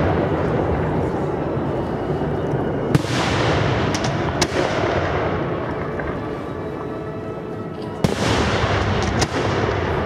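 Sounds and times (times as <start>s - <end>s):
continuous rumbling background: 0.0s - 10.0s.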